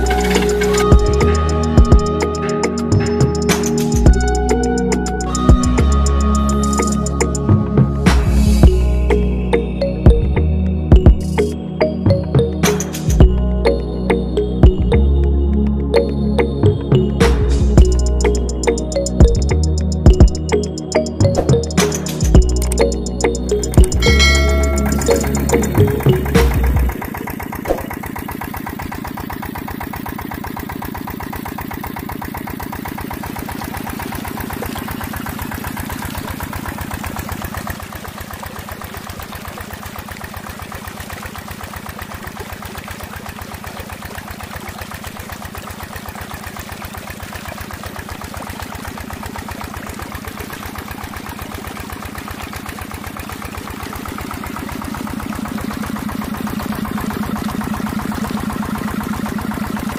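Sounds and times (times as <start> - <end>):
small diesel pump engine chugging: 0.0 - 59.9.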